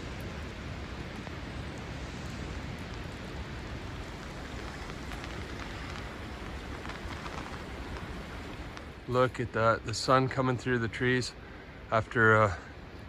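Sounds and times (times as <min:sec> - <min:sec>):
rain-like hiss: 0:00.0 - 0:13.0.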